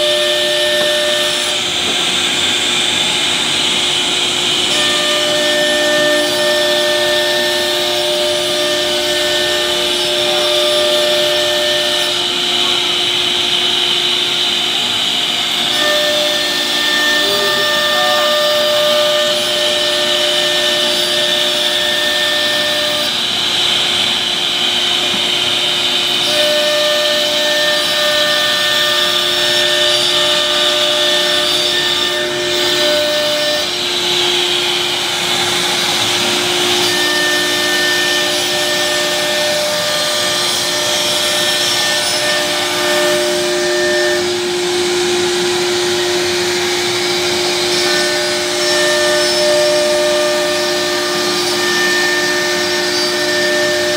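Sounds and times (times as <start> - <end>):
cnc router spindle whining: 0.0 - 53.9.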